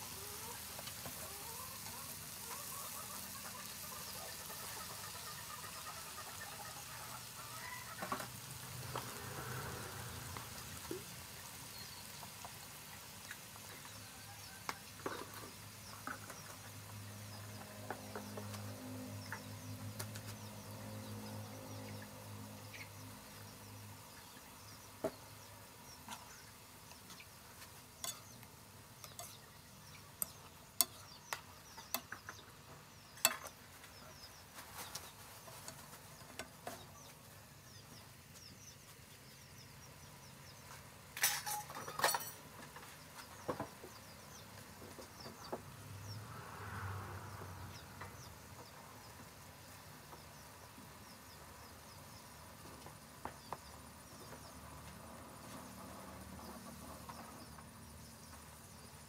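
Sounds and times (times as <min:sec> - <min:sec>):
faint steady background noise: 0:00.0 - 0:59.0.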